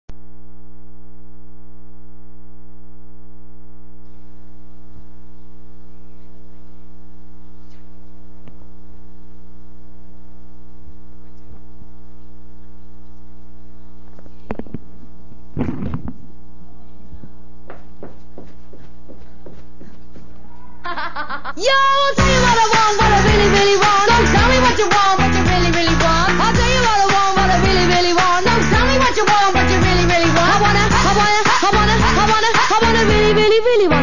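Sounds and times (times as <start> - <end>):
electrical mains hum: 0.1 - 34.0.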